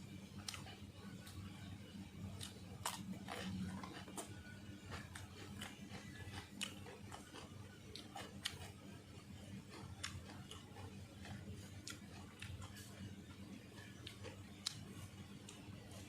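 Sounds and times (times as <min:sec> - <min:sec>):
person chewing food: 0:00.4 - 0:01.4, 0:02.2 - 0:16.0.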